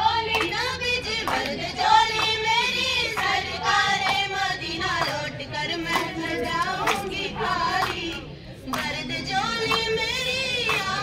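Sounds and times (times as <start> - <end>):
girls singing: 0.0 - 11.0
hand claps: 0.2 - 5.3, 5.9 - 11.0.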